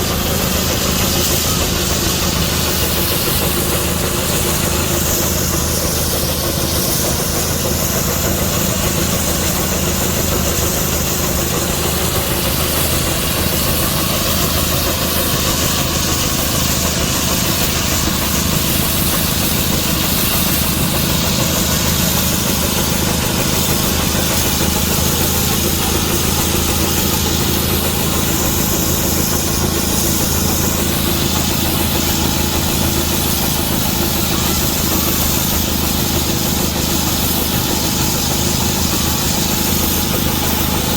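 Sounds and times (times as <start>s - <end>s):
steam traction engine running: 0.0s - 40.9s.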